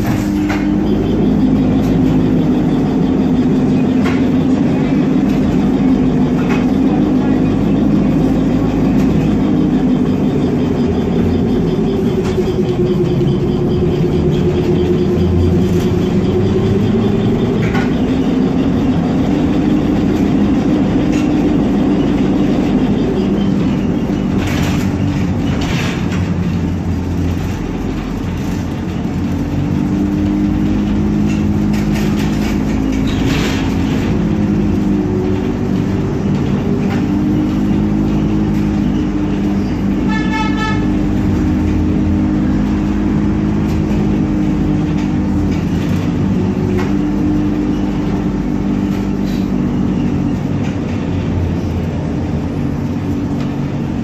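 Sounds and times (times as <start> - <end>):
trolleybus motor humming: 0.0 - 54.0.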